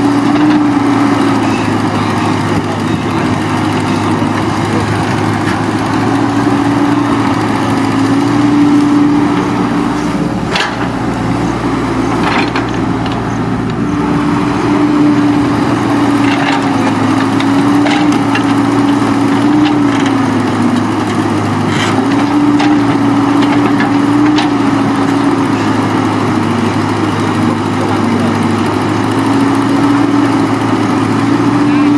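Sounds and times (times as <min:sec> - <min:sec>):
machine engine running: 0:00.0 - 0:31.9.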